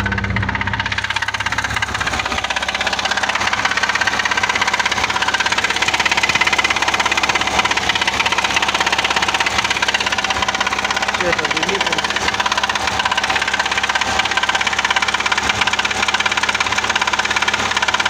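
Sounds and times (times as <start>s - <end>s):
engine idling with knock: 0.0s - 18.0s.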